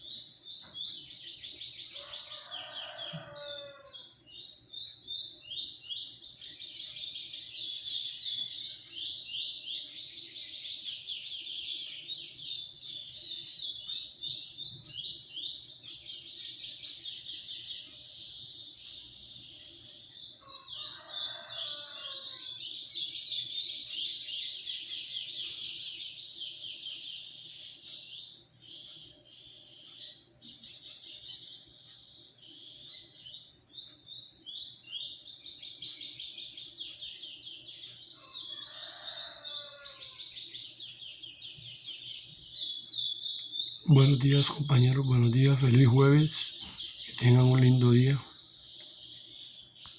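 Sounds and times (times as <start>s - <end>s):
songbirds twittering trills: 0.0s - 49.9s.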